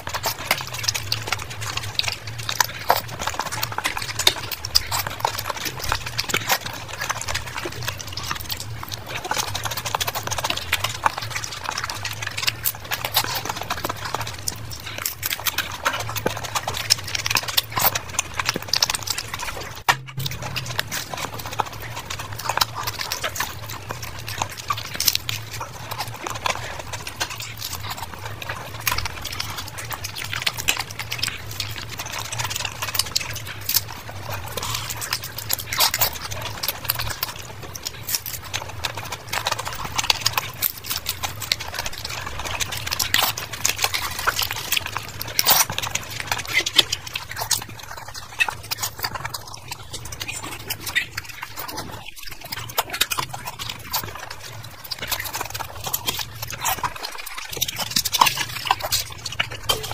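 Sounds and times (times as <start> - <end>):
low steady hum: 0.0 - 59.9
mouth clicks and smacks: 0.0 - 59.9
person chewing crunchy food: 0.0 - 59.9.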